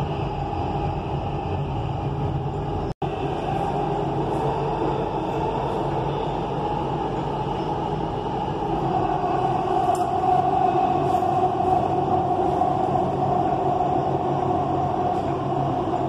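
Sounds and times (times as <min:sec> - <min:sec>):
train rumble and rush: 0:00.0 - 0:16.0.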